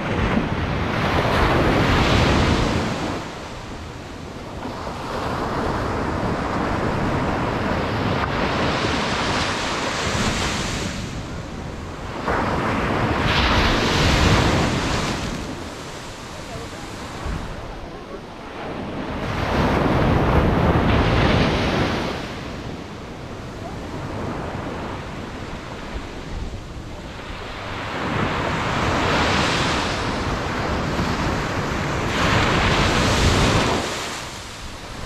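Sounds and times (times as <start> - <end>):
ocean surf breaking on beach: 0.0 - 35.0.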